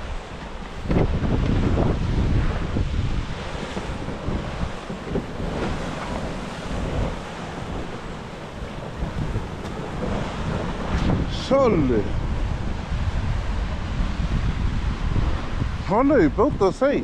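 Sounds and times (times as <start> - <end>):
surf breaking on rocks: 0.0 - 17.0
wind buffeting microphone: 0.0 - 17.0.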